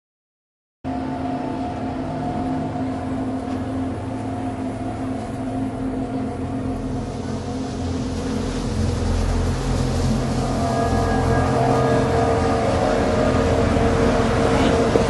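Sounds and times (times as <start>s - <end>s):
deep rumble: 0.9s - 15.0s
low drone of held tones: 0.9s - 15.0s.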